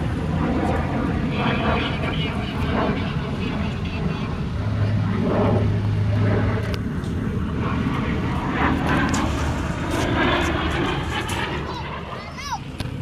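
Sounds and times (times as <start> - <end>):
jet engine rumble overhead: 0.0 - 13.0.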